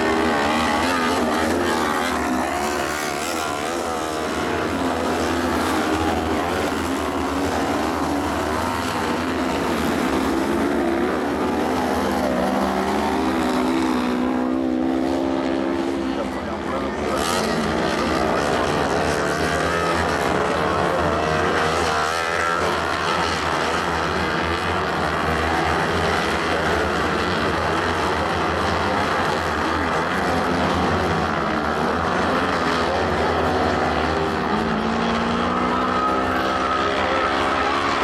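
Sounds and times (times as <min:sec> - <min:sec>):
buggy engines racing: 0:00.0 - 0:38.0.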